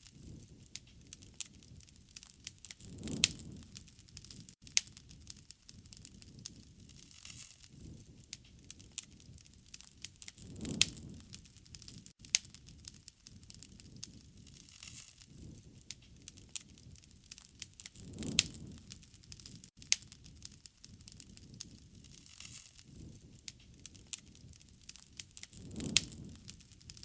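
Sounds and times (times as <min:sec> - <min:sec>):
wood fire crackling: 0:00.0 - 0:27.0
low rush of burning: 0:00.1 - 0:27.0.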